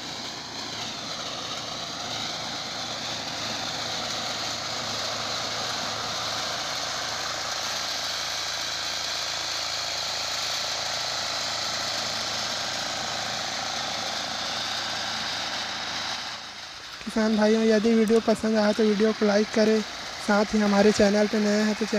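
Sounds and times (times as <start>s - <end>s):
cutter bar mowing crop: 0.0s - 21.9s
small engine running: 0.0s - 21.9s.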